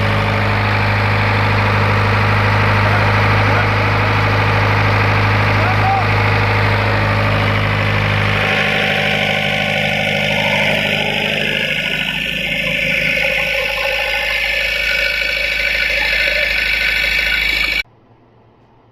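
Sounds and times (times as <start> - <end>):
diesel engine running under load: 0.0 - 17.9.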